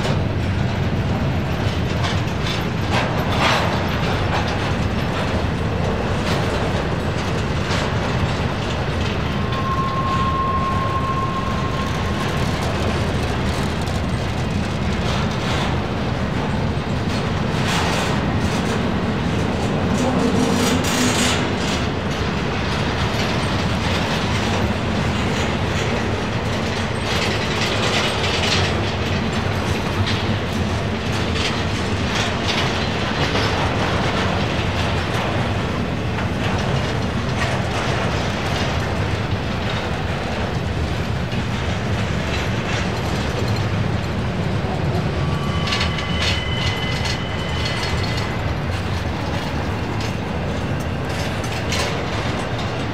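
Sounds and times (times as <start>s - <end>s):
rumble of train cars: 0.0s - 52.9s
train wheels clicking on rails: 0.0s - 52.9s.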